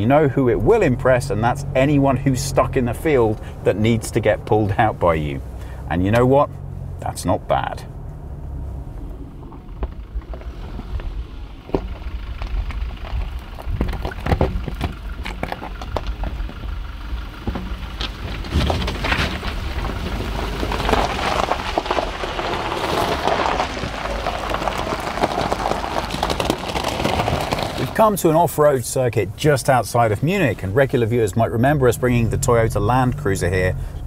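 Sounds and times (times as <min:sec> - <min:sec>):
tyres crunching over rough ground: 0:00.0 - 0:34.0
vehicle engine rumble: 0:00.0 - 0:34.0.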